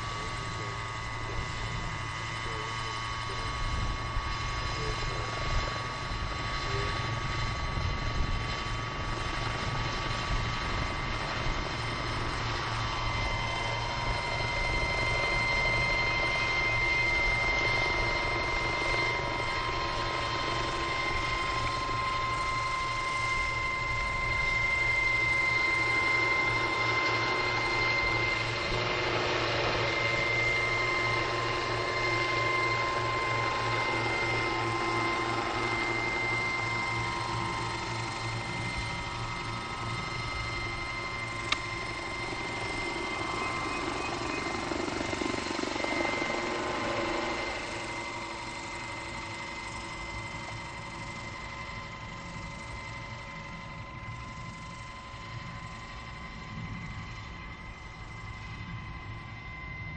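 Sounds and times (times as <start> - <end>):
model helicopter rotor chop: 0.0 - 59.6
high motor whine: 0.0 - 59.9.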